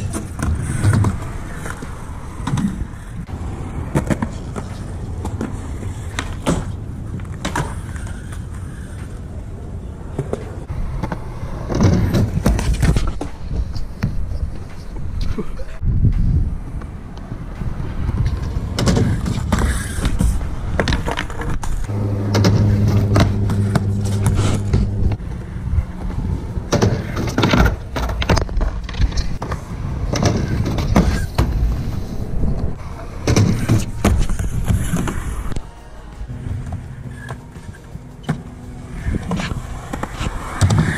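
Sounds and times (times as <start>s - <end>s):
skateboard clacking on ground: 0.0s - 15.8s, 16.8s - 35.7s
skateboard wheels rumbling on concrete: 0.0s - 35.6s, 36.5s - 40.9s.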